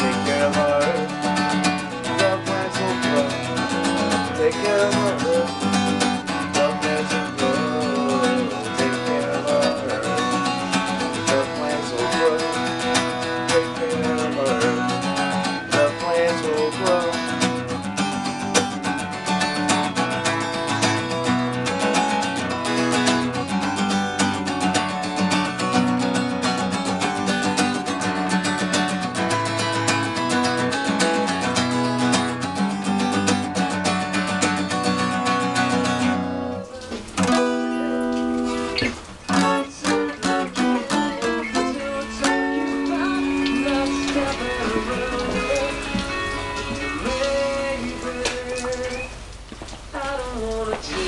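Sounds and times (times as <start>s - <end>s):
acoustic guitar playing: 0.0s - 51.0s.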